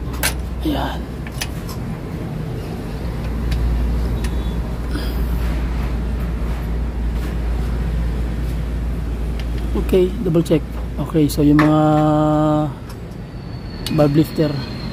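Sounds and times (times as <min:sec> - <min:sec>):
low engine rumble: 0:00.0 - 0:14.9.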